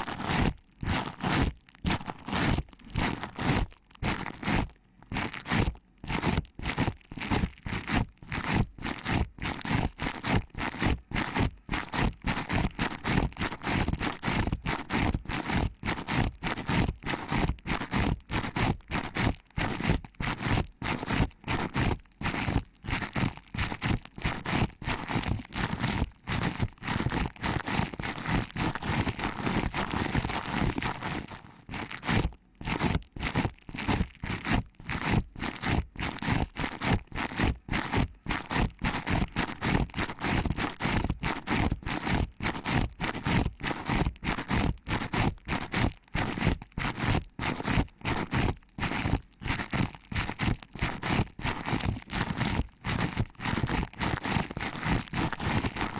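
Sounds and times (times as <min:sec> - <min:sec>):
fingers rubbing microphone: 0:00.0 - 0:55.9.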